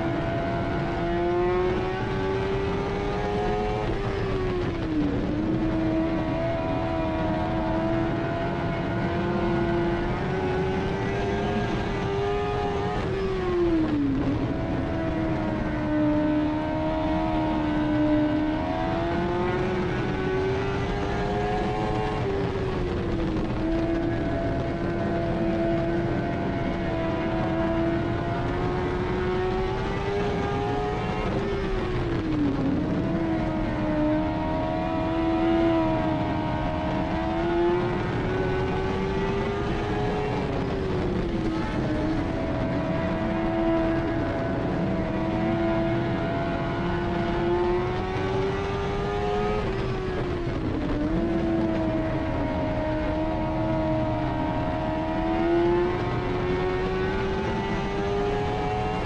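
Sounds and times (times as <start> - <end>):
race car engine running hard: 0.0 - 59.0
rumble and dirt noise: 0.0 - 59.0.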